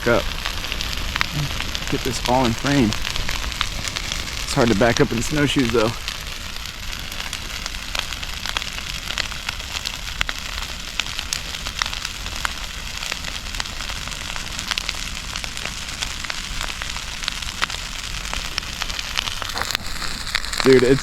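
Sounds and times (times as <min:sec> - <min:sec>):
bonfire flames hissing and crackling: 0:00.0 - 0:21.0.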